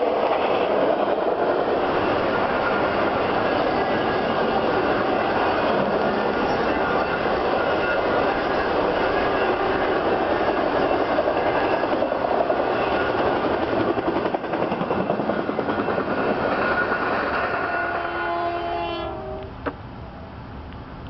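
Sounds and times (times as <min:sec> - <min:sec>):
freight train wheels rolling on rail: 0:00.0 - 0:21.0.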